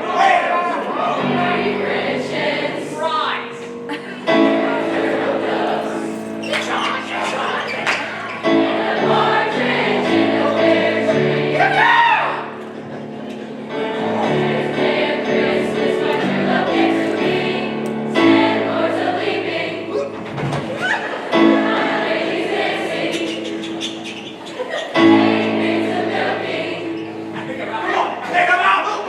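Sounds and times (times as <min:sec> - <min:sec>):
choir singing long chords: 0:00.0 - 0:28.2.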